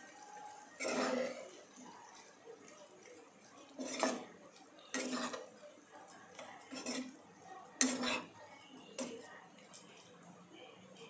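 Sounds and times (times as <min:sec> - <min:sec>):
spatula scraping pan: 0:00.7 - 0:10.0.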